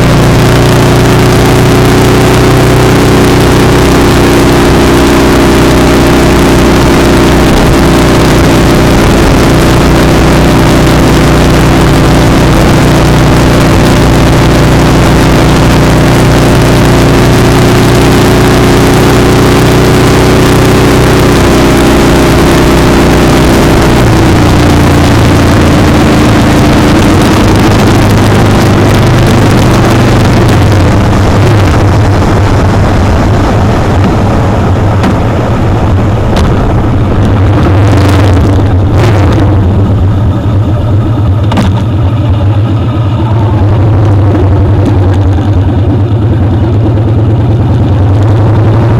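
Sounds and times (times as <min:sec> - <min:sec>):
motorcycle engine running: 0:00.0 - 0:48.9
wind rush over microphone: 0:00.0 - 0:48.9.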